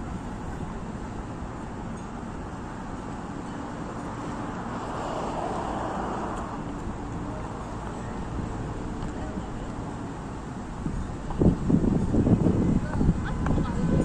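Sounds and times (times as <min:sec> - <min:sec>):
distant city traffic: 0:00.0 - 0:11.4.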